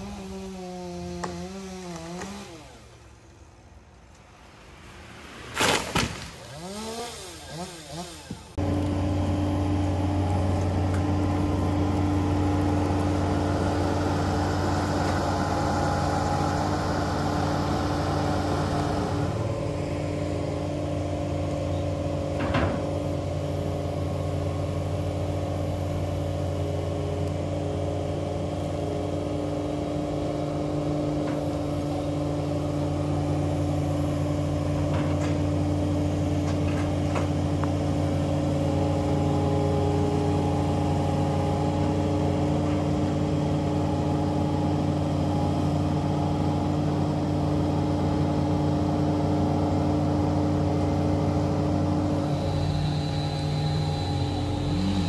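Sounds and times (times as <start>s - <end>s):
heavy equipment engine running: 7.4s - 55.0s.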